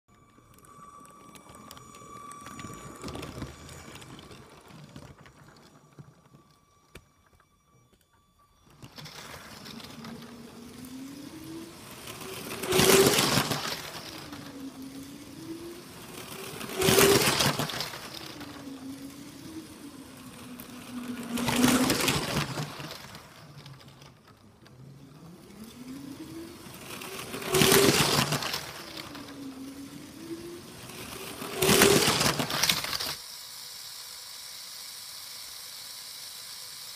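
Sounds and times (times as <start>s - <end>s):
wheels clattering on plastic track: 0.1s - 33.2s
toy train motor whining: 0.1s - 36.9s.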